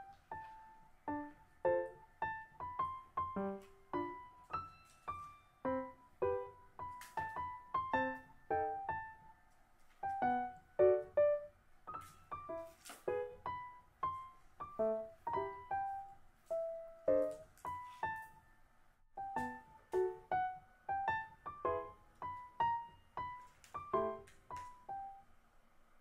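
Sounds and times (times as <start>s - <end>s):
light keyboard tune: 0.0s - 9.3s, 10.0s - 18.4s, 19.2s - 25.3s.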